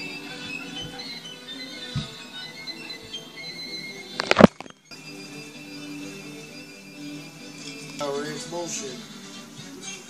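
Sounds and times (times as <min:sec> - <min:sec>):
instrumental music from television: 0:00.0 - 0:10.0.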